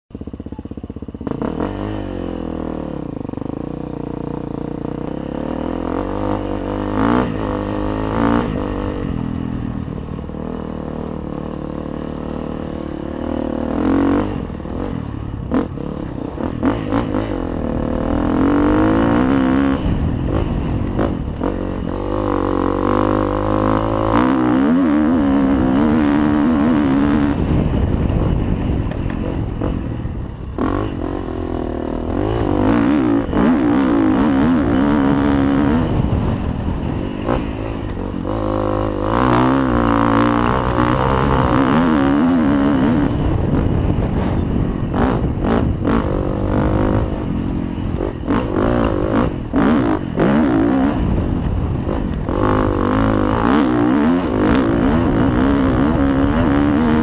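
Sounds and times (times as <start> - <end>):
dirt bike engine revving: 0.7 - 57.0.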